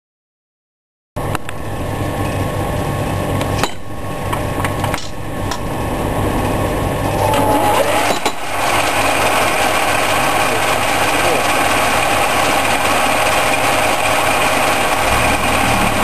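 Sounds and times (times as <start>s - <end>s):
lathe running hum: 1.5s - 16.0s.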